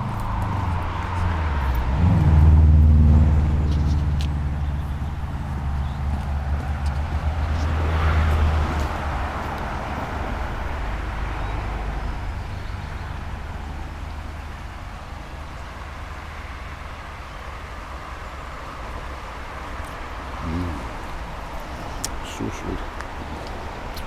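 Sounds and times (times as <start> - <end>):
vehicle passing by: 0.0 - 24.0.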